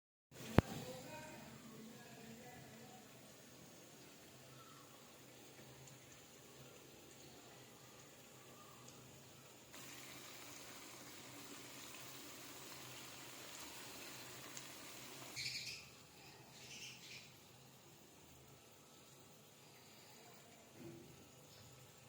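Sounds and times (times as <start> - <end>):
faint steady hiss: 0.4 - 22.0.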